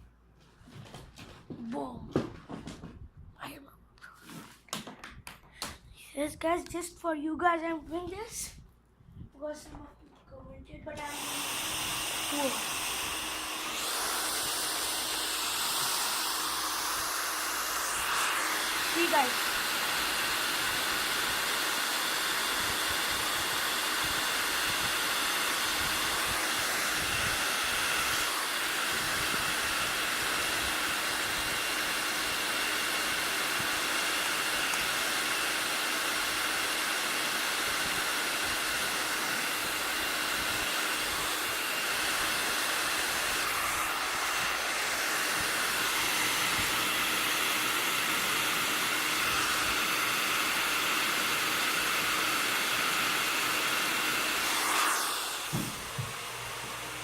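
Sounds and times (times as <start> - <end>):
hair dryer blowing: 10.9 - 57.0.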